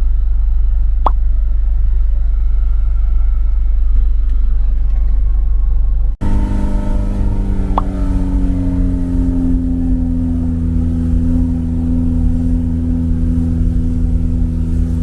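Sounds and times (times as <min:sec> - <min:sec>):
deep vehicle rumble: 0:00.0 - 0:15.0.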